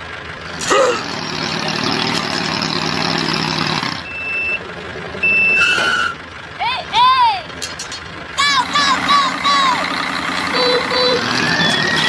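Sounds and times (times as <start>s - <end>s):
rattling vehicle engine: 0.0s - 12.0s.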